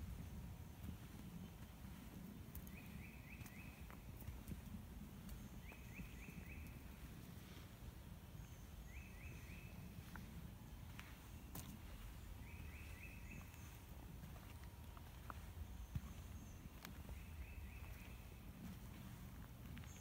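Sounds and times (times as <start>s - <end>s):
faint low rumble: 0.0s - 20.0s
songbird singing: 0.0s - 20.0s.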